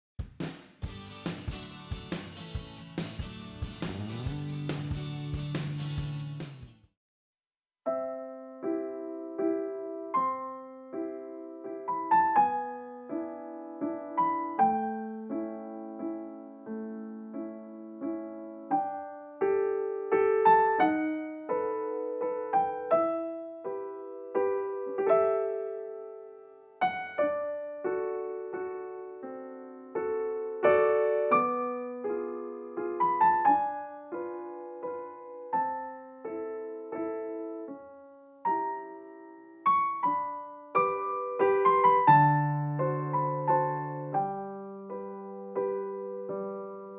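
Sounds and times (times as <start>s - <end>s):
piano music: 0.8s - 6.7s, 7.9s - 46.9s.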